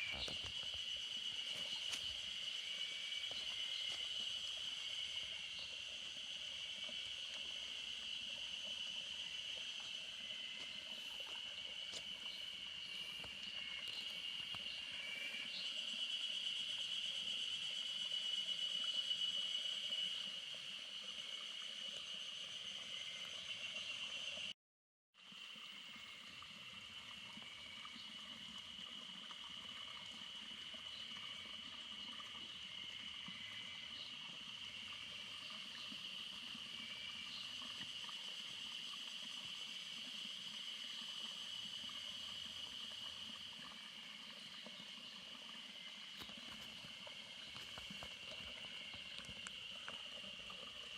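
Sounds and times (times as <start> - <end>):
insects chorus: 0.0 - 24.5, 25.4 - 50.9.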